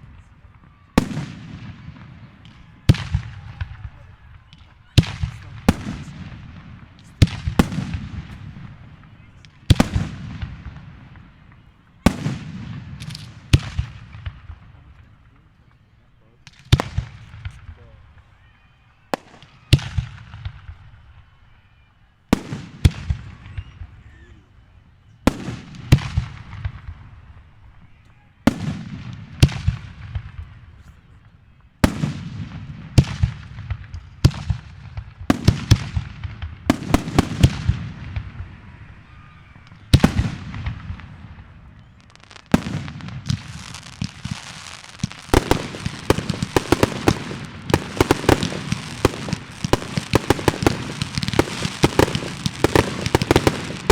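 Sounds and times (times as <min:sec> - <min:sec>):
fireworks exploding: 0:00.0 - 0:15.5, 0:16.4 - 0:18.2, 0:18.8 - 0:24.0, 0:25.2 - 0:53.9.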